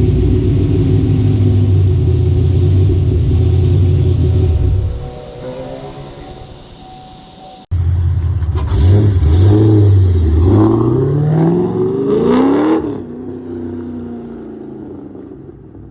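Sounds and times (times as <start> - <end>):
car engine revving: 0.0 - 6.8, 7.7 - 15.9.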